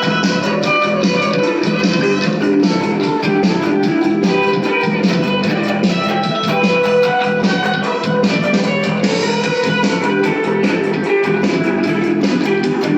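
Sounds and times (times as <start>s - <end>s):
strummed guitar music with beat: 0.0s - 12.9s.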